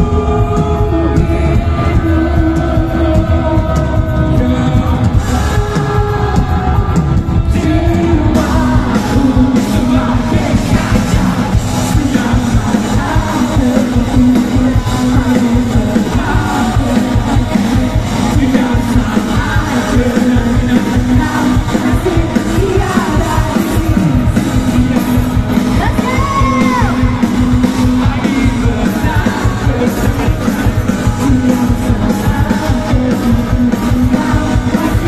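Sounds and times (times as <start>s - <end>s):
drums steady beat: 0.0s - 35.0s
electric guitars: 0.0s - 35.0s
person singing: 0.0s - 35.0s.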